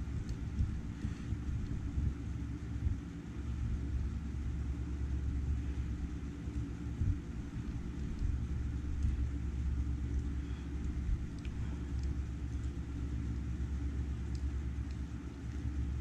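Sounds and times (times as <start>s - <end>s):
low uneven rumble: 0.0s - 16.0s.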